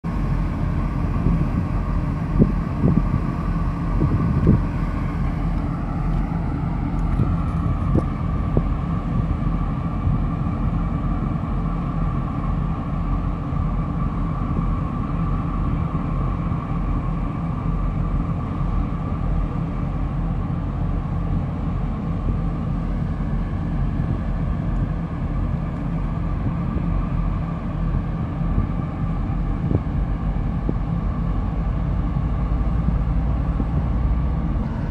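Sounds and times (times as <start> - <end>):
ship engine rumble: 0.0 - 34.9
steady whine: 0.1 - 34.9.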